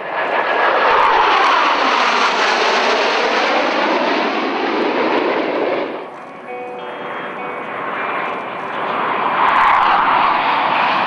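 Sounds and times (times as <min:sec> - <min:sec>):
jets passing overhead: 0:00.0 - 0:11.0.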